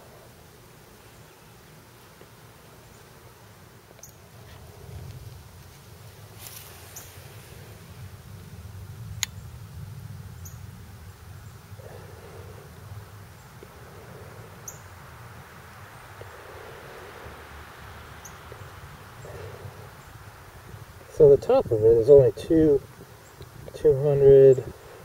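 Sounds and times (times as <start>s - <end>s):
low uneven rumble: 3.8s - 25.0s.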